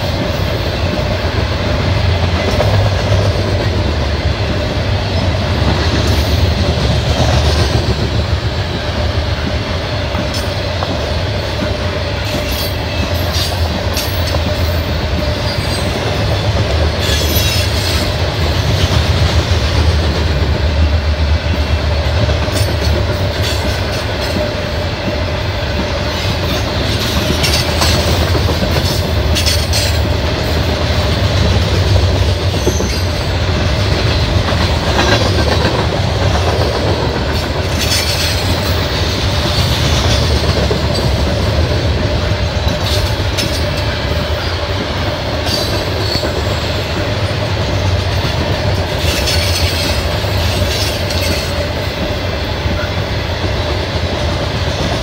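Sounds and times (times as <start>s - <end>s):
freight train rumbling: 0.0s - 55.0s
wheels clicking over rail joints: 0.0s - 55.0s.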